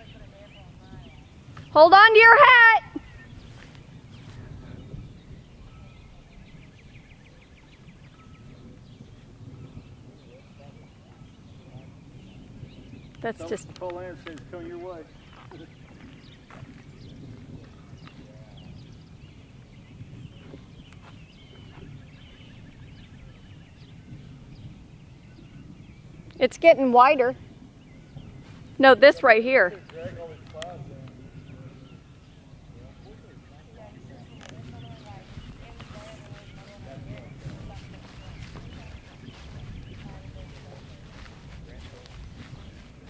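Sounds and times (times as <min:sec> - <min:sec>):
birds chirping: 0:00.0 - 0:43.0
low rumble of wind: 0:00.0 - 0:43.0.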